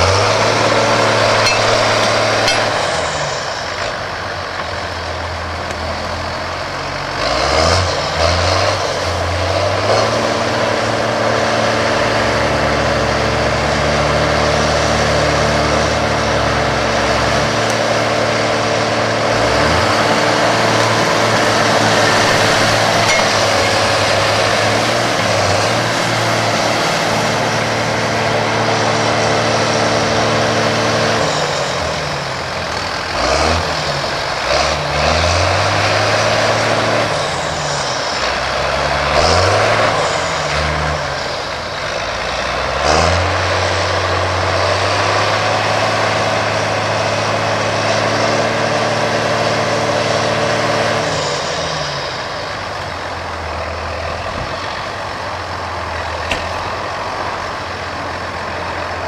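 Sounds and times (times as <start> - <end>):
tractor diesel engines revving: 0.0 - 59.0.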